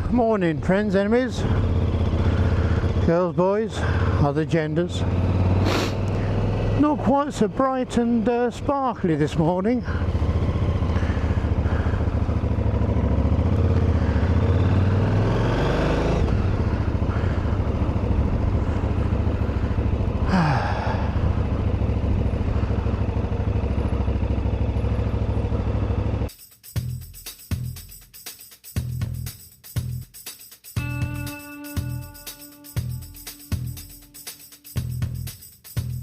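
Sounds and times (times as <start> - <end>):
motorcycle engine running: 0.0 - 27.0, 30.7 - 36.0.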